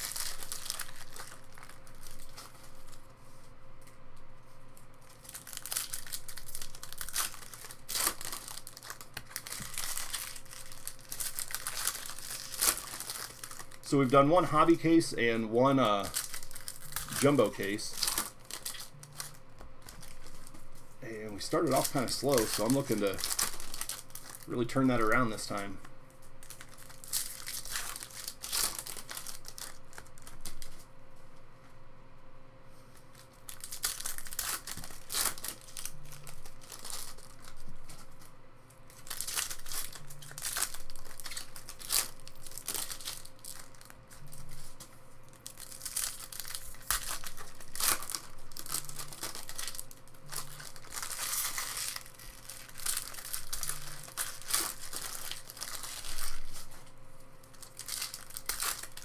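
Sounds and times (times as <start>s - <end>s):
foil wrappers tearing and crinkling: 0.0s - 3.0s, 4.8s - 30.9s, 33.0s - 59.0s.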